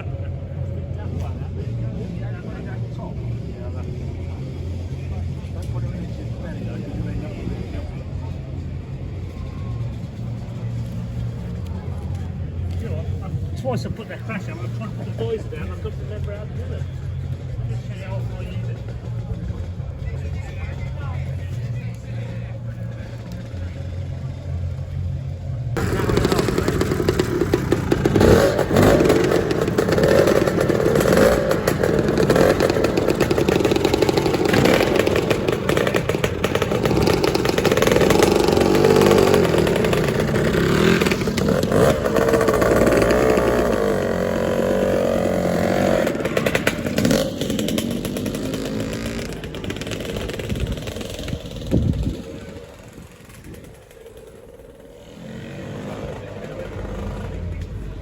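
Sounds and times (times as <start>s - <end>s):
two-stroke scooter engines revving: 0.0s - 58.0s.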